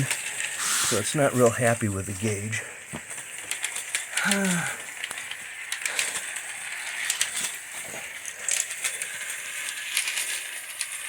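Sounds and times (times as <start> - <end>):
steam hissing: 0.0 - 11.0
toy train wheels clicking and rattling: 0.0 - 11.0.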